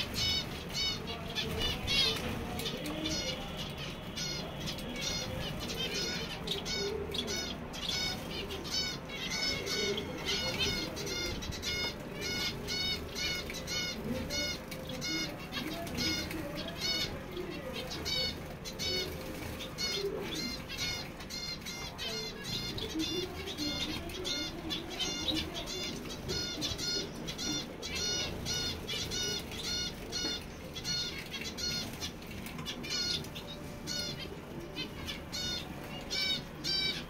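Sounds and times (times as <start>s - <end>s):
finches chirping: 0.0s - 37.0s.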